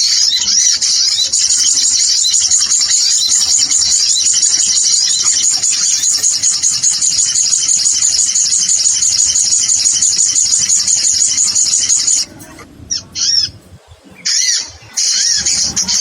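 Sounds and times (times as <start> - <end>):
bird chirps: 0.0 - 16.0
high-pitched bird twittering: 0.0 - 16.0.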